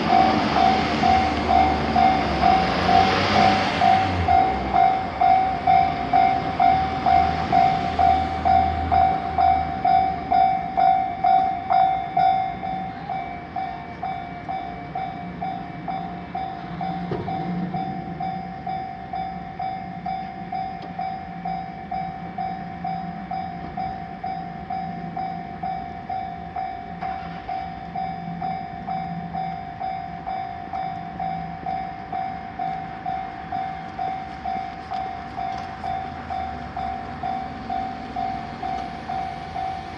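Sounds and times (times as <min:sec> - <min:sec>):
level crossing warning bell: 0:00.0 - 0:39.9
passing train rumble: 0:00.0 - 0:39.9.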